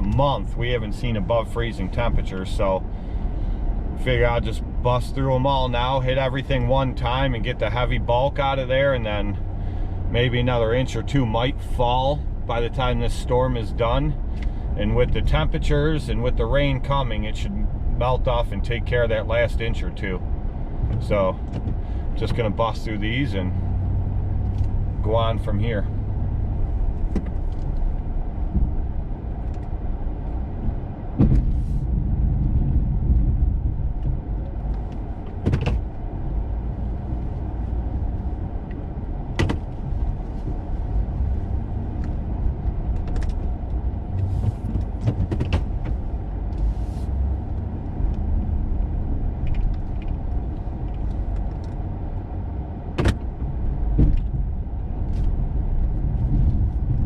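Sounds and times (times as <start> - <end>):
truck engine rumbling: 0.0 - 57.0.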